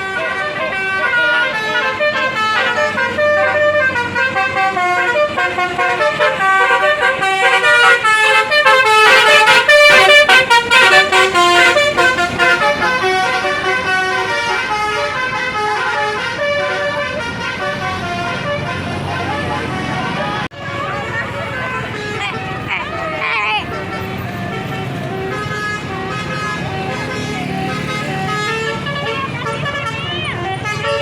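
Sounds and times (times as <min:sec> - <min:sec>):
musical bus horn melody: 0:00.0 - 0:31.0.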